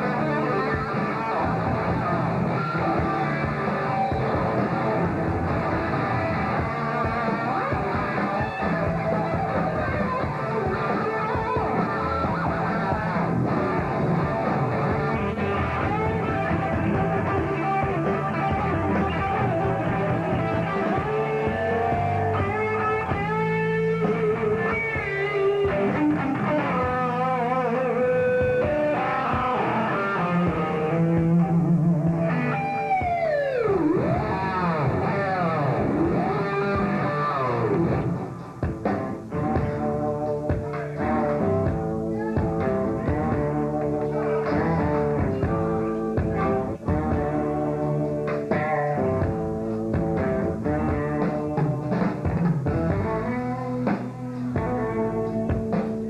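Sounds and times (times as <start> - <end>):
bass: 0.0 - 56.0
drums: 0.0 - 56.0
electric guitar: 0.0 - 56.0.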